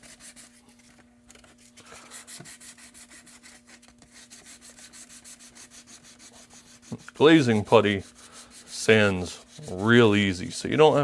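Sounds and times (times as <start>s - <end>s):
sandpaper rubbing on plastic: 0.0s - 0.6s, 2.1s - 11.0s.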